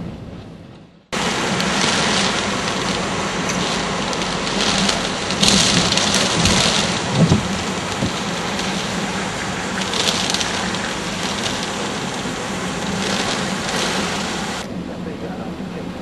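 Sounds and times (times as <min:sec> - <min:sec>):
strong wind gusts: 0:00.0 - 0:16.0
driving rain: 0:00.6 - 0:15.8.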